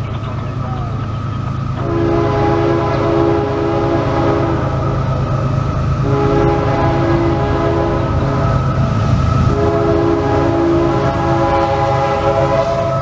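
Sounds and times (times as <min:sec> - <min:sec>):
train air horn: 0:01.8 - 0:13.0.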